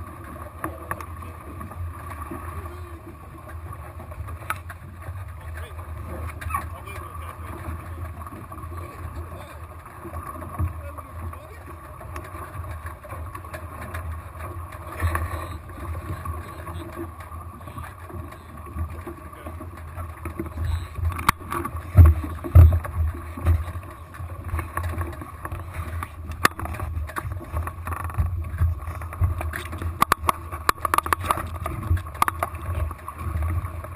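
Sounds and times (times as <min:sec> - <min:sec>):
faint hum: 0:00.0 - 0:33.9
water rushing along boat hulls: 0:00.0 - 0:33.9
water splashes: 0:00.0 - 0:33.9.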